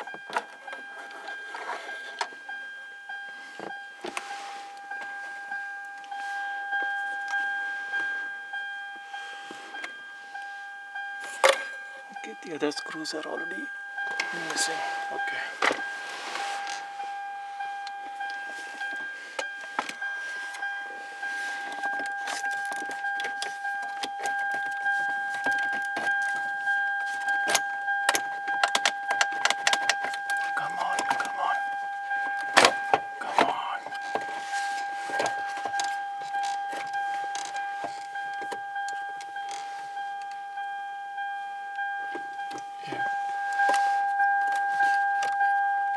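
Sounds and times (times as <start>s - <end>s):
high-pitched whine: 0.0s - 45.9s.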